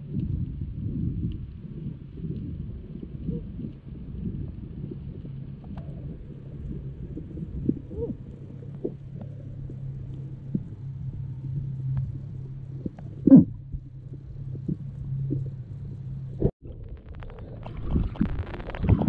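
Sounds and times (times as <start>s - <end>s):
muffled underwater hum: 0.0s - 19.0s
underwater pops and gurgles: 0.1s - 11.3s, 11.9s - 15.6s, 16.2s - 19.0s.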